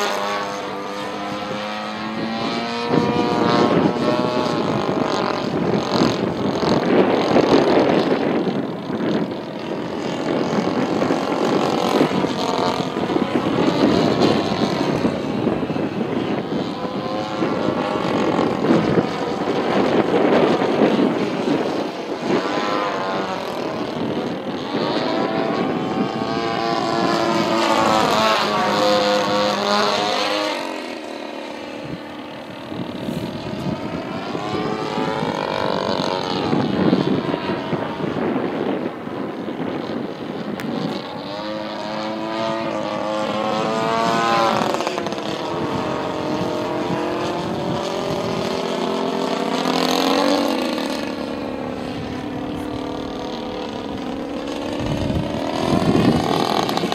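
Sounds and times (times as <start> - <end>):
model plane engine in flight: 0.0 - 56.9.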